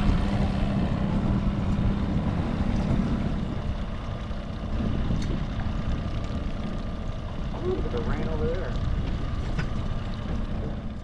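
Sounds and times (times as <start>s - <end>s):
boat motor humming: 0.0s - 11.0s
wind rumble on microphone: 0.0s - 11.0s.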